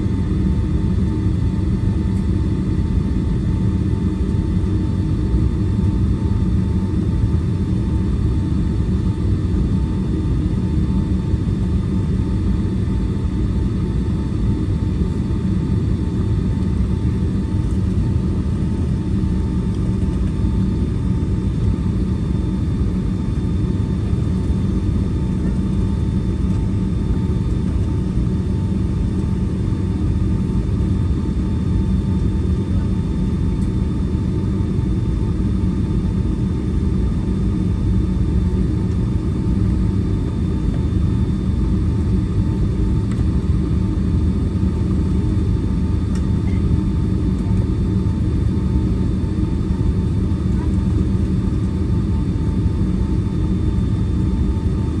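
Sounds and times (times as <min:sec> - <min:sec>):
airplane cabin rumble: 0:00.0 - 0:55.0
faint engine whine: 0:00.0 - 0:55.0.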